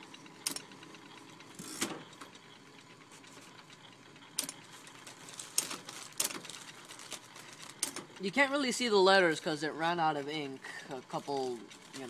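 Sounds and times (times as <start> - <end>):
typewriter motor hum: 0.0 - 12.0.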